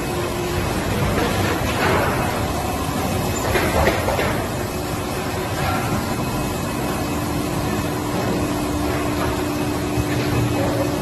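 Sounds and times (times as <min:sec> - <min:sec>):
injection molding machines humming: 0:00.0 - 0:11.0.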